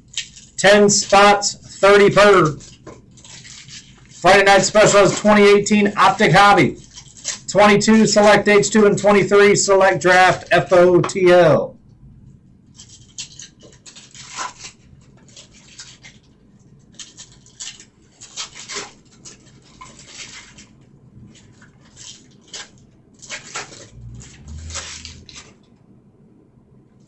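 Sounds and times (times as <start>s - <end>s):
trading cards crinkling and rustling: 0.0s - 11.5s, 12.6s - 25.8s.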